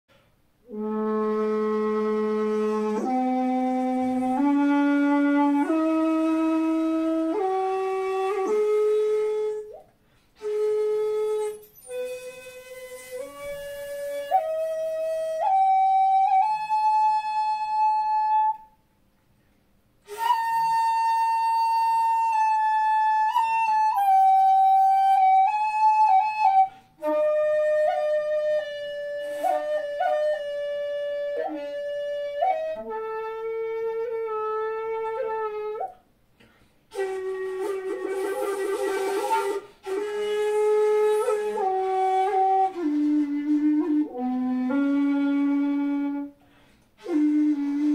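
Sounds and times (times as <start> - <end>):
solo shakuhachi flute: 0.1 - 18.8, 20.0 - 36.1, 36.9 - 47.9.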